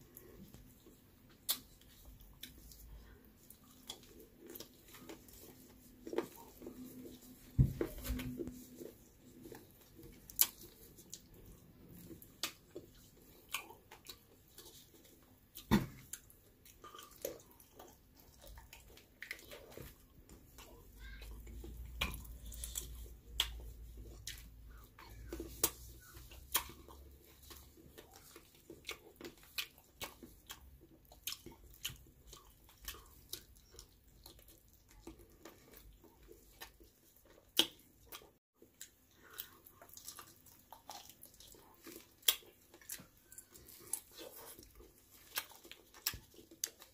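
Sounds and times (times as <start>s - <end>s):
chewing and mouth noises: 0.0s - 46.9s.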